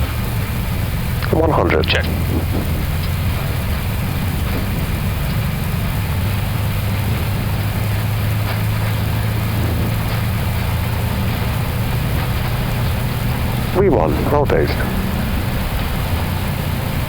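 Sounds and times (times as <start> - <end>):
jet engines rumbling at takeoff: 0.0 - 17.0.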